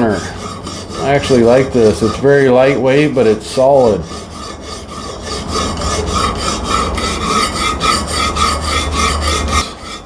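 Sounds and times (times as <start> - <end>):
sharpening stone rasping on knife: 0.0 - 10.0.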